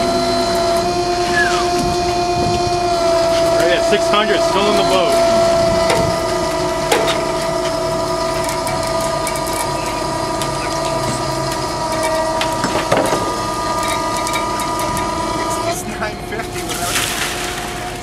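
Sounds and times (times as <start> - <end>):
machinery whining: 0.0 - 18.0.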